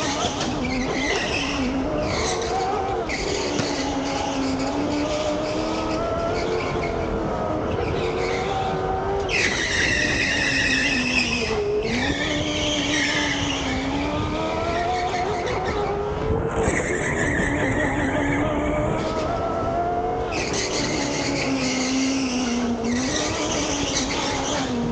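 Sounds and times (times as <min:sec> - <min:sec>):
electric go-kart motor whining: 0:00.0 - 0:24.9.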